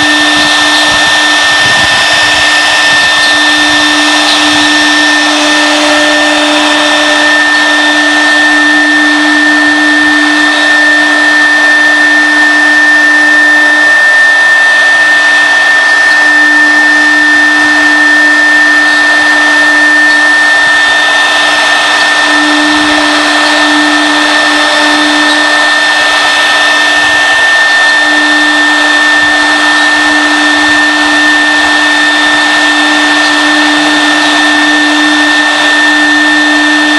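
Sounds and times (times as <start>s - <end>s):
lower machine hum: 0.0s - 36.9s
router spindle high whine: 0.0s - 36.9s.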